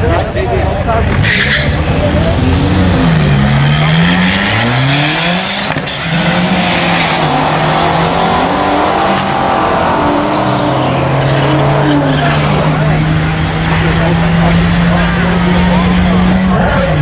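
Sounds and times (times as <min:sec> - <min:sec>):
car engine accelerating hard: 0:00.1 - 0:17.0.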